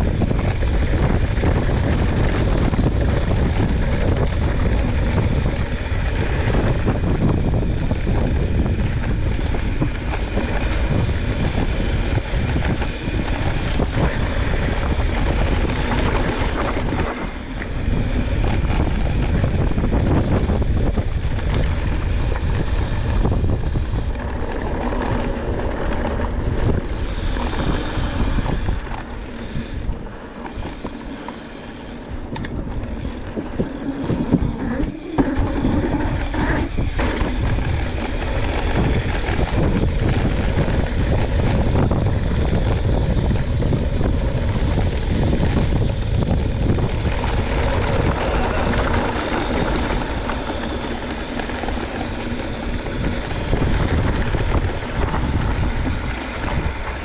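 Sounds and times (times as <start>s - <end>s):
bike tyres rolling on dirt: 0.0s - 57.0s
wind buffeting microphone: 0.0s - 57.0s.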